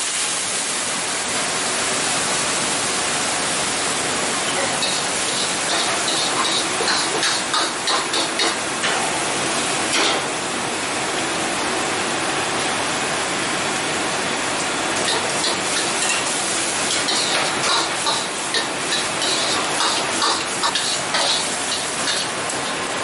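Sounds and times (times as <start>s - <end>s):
noodles sizzling in a wok: 0.0s - 23.0s.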